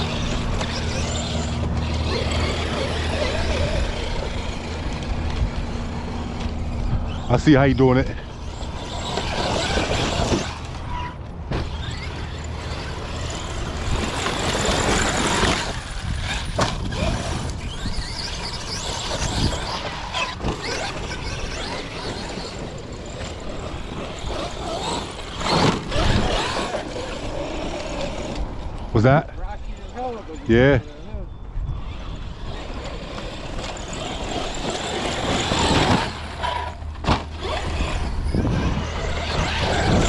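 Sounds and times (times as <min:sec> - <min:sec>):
electric motor whining: 0:00.0 - 0:28.9, 0:31.6 - 0:40.0.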